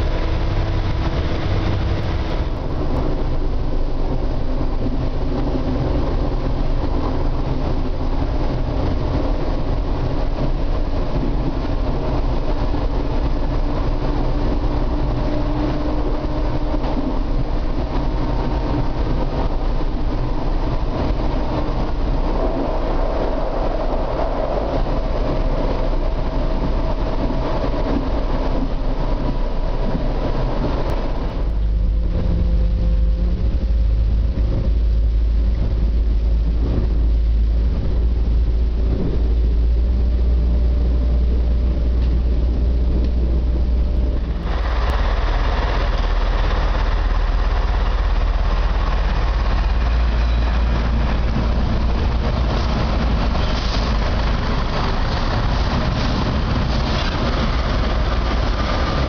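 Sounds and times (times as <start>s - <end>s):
diesel railcar low rumble: 0.0s - 59.0s
rail noise: 0.0s - 59.0s
railcar engine from platform: 0.0s - 59.0s.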